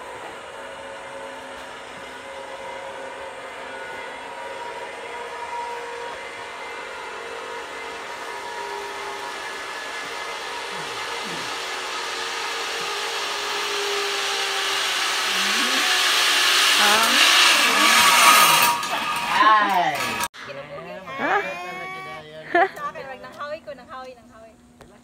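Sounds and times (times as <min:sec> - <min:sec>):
zipline trolley whirring on cable: 0:00.0 - 0:20.3, 0:21.0 - 0:24.1.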